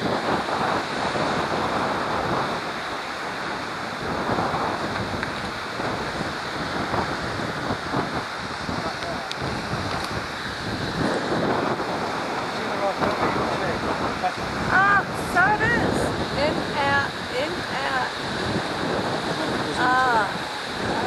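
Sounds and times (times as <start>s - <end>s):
wind blowing on microphone: 0.0s - 21.0s.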